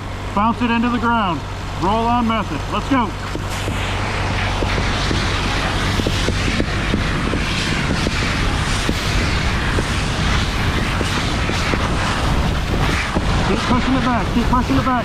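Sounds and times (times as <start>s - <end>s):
fire crackling: 0.0s - 15.0s
fire hose water rushing: 0.0s - 15.0s.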